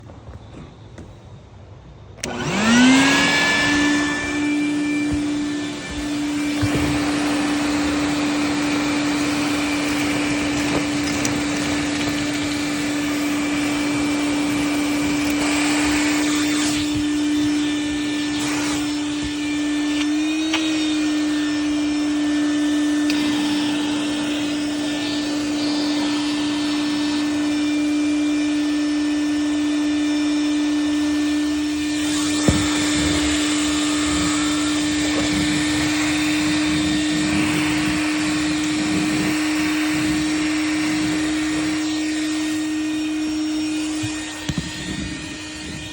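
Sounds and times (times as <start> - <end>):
vacuum cleaner running: 2.1 - 45.9.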